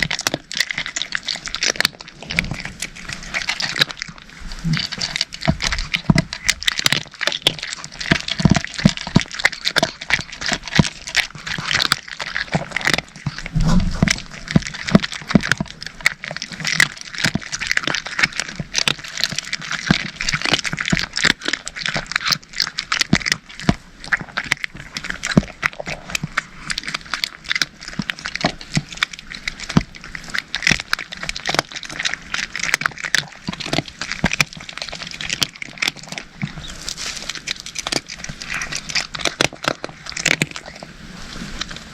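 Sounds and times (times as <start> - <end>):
cats crunching dry kibble: 0.0 - 41.9.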